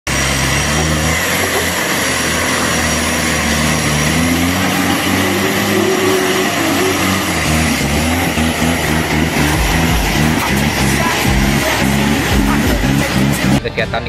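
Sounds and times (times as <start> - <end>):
off-road vehicle engine under load: 0.0 - 14.0.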